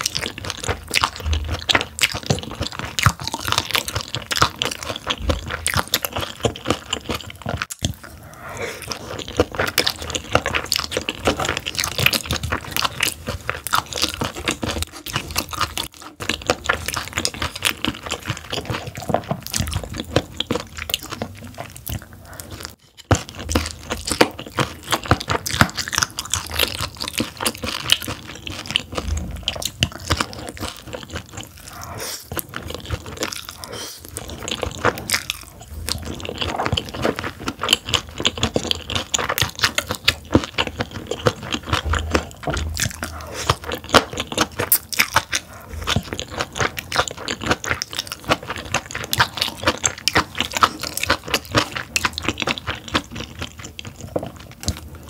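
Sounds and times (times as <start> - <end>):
wet chewing crunches: 0.0 - 55.0.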